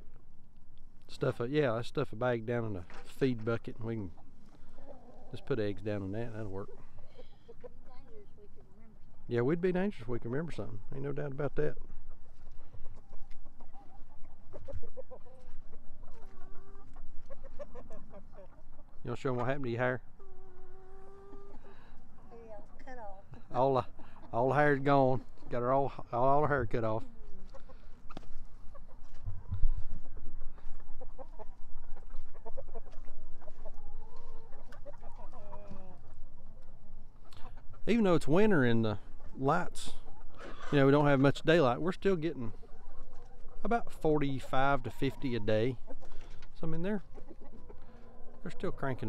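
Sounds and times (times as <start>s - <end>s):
hens clucking: 0.0s - 49.0s.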